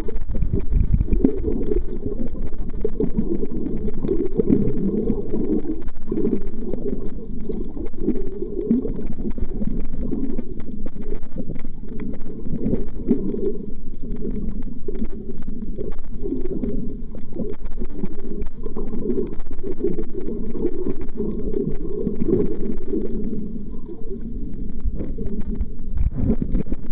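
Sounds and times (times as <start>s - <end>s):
muffled underwater water rumble: 0.0s - 26.9s.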